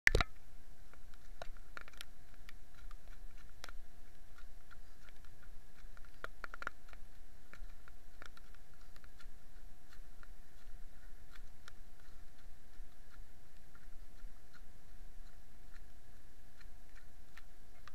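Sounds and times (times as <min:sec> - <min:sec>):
faint steady whine: 0:00.1 - 0:17.9.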